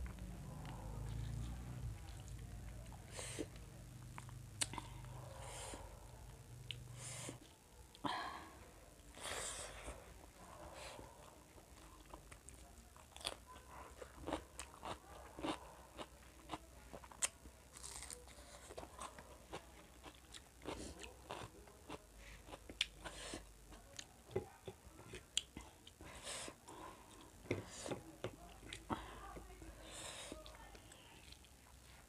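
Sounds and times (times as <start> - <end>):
person chewing food: 0.0 - 5.9, 9.0 - 29.1.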